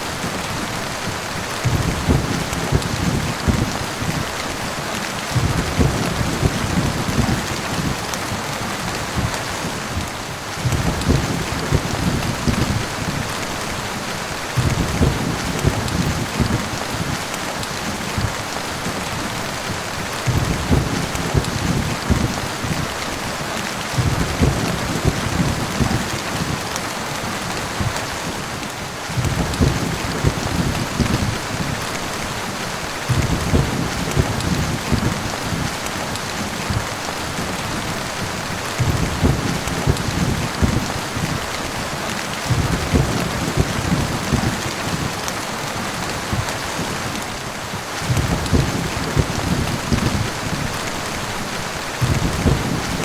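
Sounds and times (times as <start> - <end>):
heavy rain hissing: 0.0 - 53.0
low thunder rumbling: 0.1 - 23.3, 24.0 - 26.6, 29.0 - 47.1, 47.7 - 53.0.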